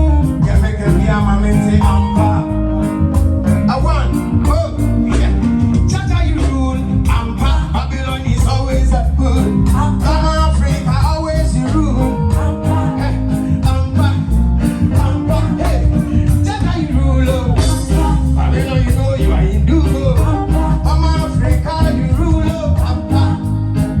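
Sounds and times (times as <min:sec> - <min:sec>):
reggae song with heavy bass: 0:00.0 - 0:24.0.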